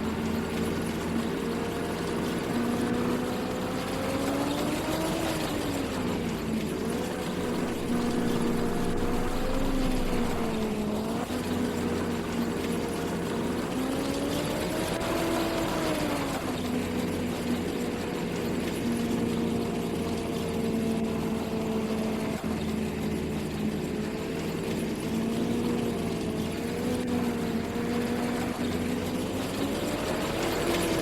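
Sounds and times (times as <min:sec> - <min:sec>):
harvesting machinery engine running: 0:00.0 - 0:31.0.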